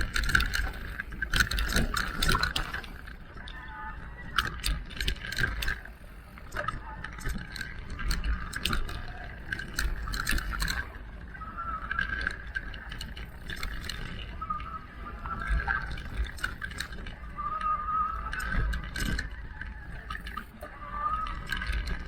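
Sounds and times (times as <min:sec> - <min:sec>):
wavering motor whine: 0:00.0 - 0:22.0.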